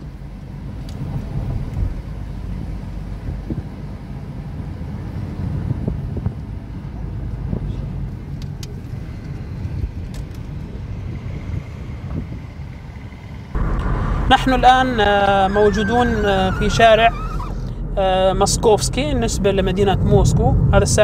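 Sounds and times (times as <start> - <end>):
car interior low rumble: 0.0 - 21.0.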